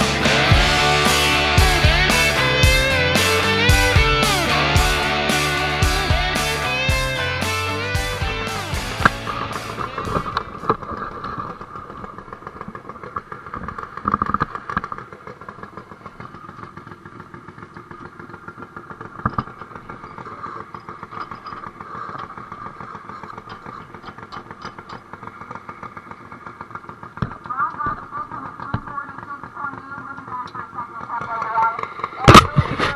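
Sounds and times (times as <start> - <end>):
garden tractor engine idling: 0.0 - 32.9.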